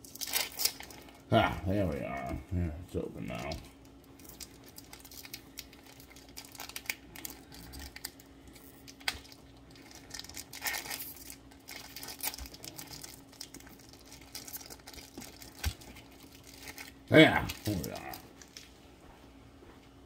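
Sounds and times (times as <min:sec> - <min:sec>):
plastic packaging crinkling and tearing: 0:00.0 - 0:01.3, 0:03.3 - 0:18.7
faint steady hum: 0:00.0 - 0:20.0.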